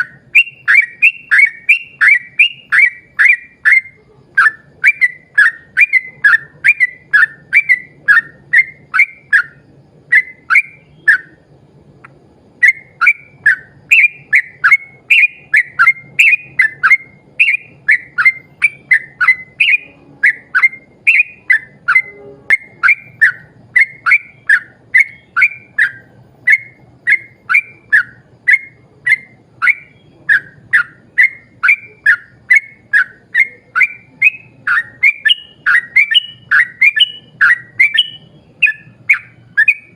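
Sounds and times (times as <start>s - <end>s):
bulbul whistled song: 0.0s - 39.9s.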